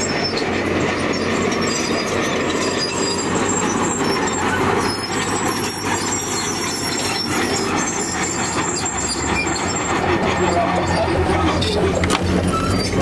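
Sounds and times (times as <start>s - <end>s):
diesel engine: 0.0s - 13.0s
steel tracks clanking and squealing: 0.0s - 13.0s.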